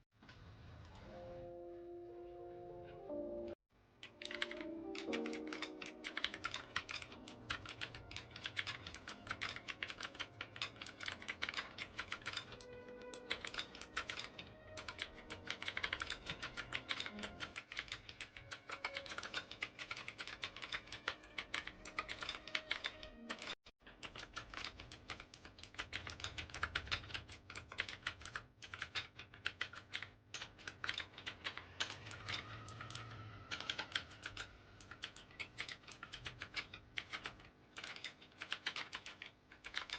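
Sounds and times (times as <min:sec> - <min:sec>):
fast mechanical keyboard typing: 0:04.0 - 0:39.9.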